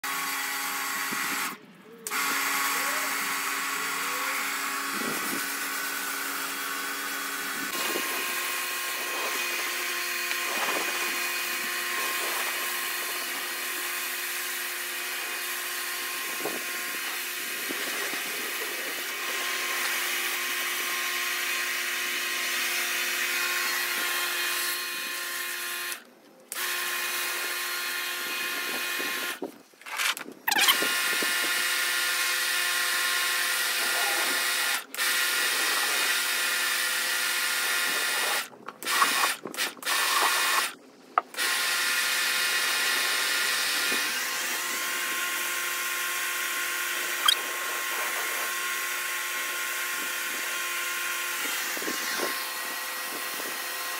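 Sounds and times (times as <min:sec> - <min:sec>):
pressure washer pump whining: 0:00.0 - 0:53.9.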